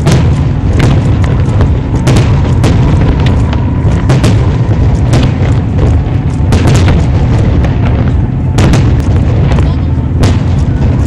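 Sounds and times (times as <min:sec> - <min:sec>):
fireworks booming: 0:00.0 - 0:11.0
fireworks cracks and pops: 0:00.0 - 0:11.0.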